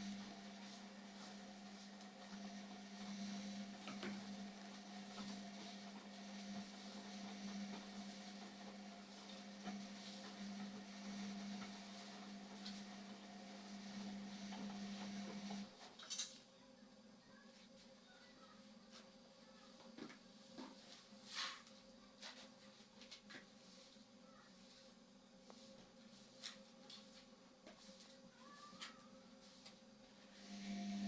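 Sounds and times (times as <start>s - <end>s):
washing machine motor hum: 0.0s - 16.0s, 18.0s - 31.0s.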